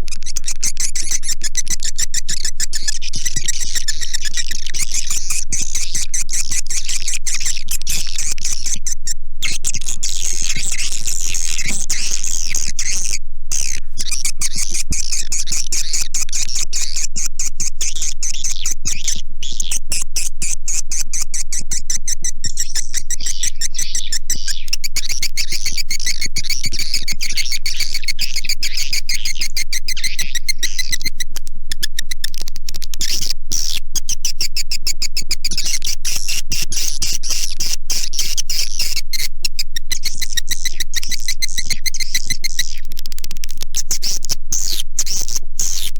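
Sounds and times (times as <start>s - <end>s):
bird chirps and clicks: 0.0s - 45.9s.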